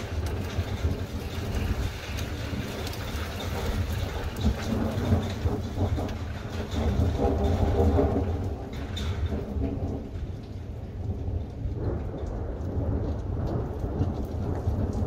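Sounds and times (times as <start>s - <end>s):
low rolling thunder: 0.0s - 15.0s
steady rain: 0.0s - 15.0s.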